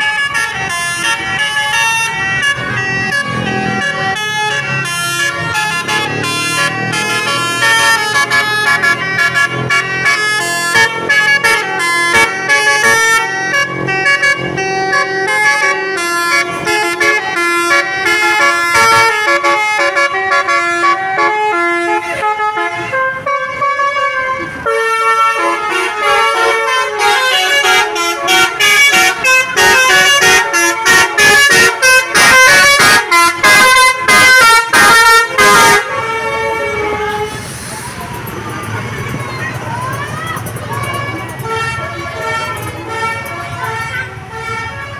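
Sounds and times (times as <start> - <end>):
multi-trumpet air horn tune: 0.0 - 37.8, 40.7 - 44.9.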